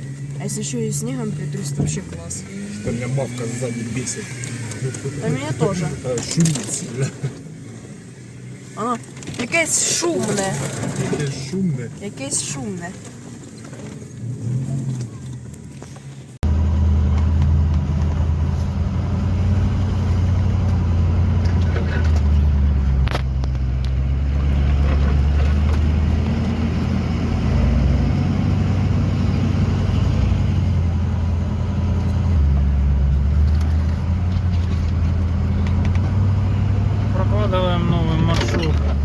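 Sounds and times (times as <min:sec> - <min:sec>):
car engine droning under load: 0:00.0 - 0:39.0.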